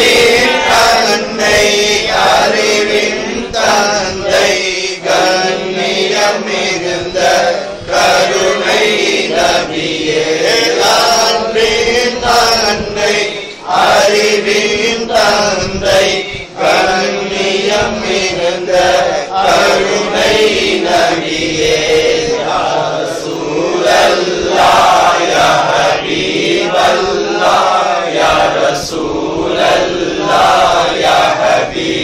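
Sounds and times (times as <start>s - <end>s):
group of voices chanting: 0.0s - 32.0s.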